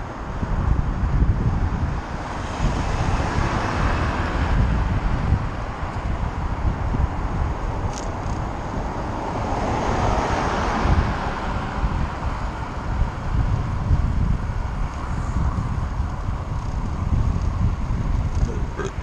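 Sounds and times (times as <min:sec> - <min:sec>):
wind buffeting microphone: 0:00.0 - 0:19.0
car passing: 0:01.1 - 0:19.0.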